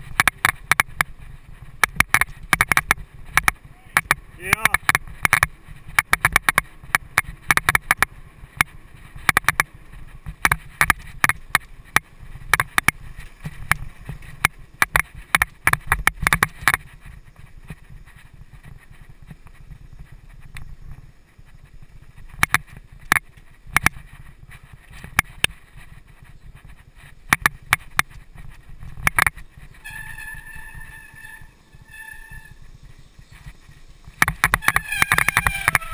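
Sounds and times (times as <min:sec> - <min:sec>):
bike clicks and rattles: 0:00.0 - 0:35.9
wind rumble on microphone: 0:00.0 - 0:35.9.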